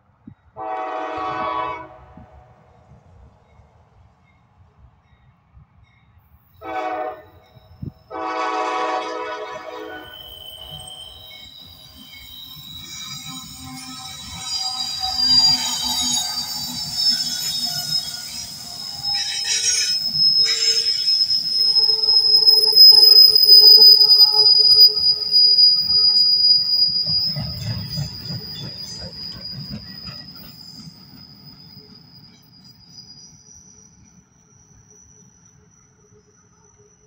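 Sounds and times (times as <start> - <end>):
train wheels squealing on rail: 0.3 - 37.0.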